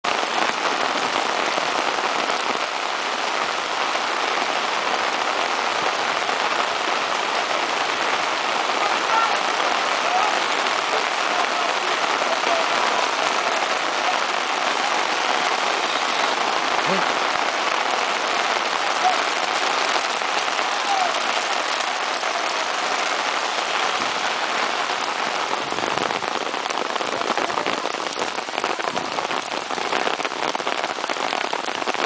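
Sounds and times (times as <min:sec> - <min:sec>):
heavy rain on pavement: 0:00.0 - 0:32.0.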